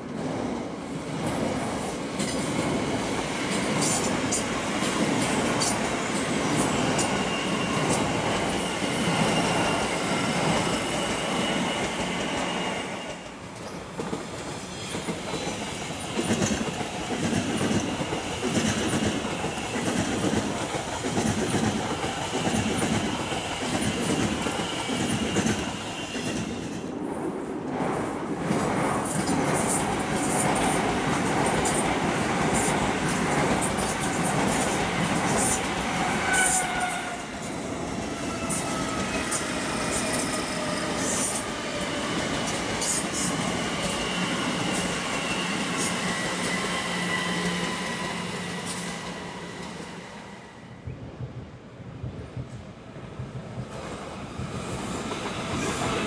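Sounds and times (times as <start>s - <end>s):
high whine of train: 0.0s - 56.0s.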